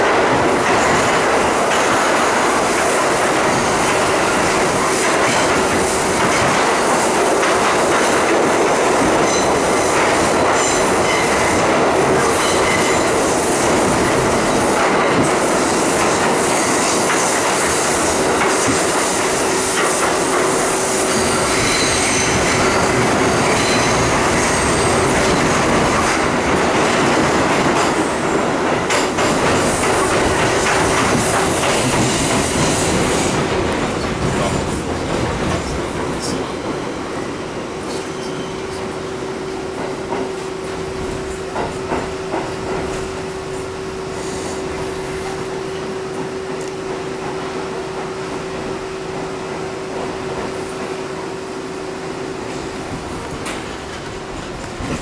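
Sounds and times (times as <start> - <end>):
subway car rumble and rail noise: 0.0 - 55.0.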